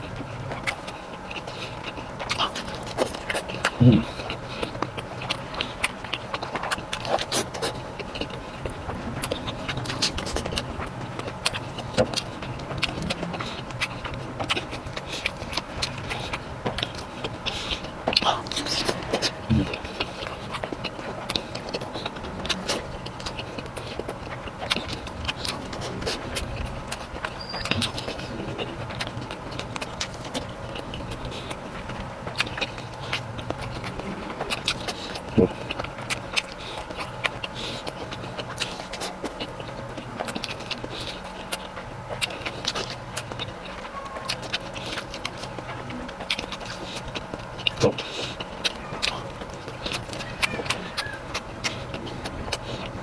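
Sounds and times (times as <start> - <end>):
person chewing food: 0.0 - 53.0
steady low hum: 0.0 - 53.0.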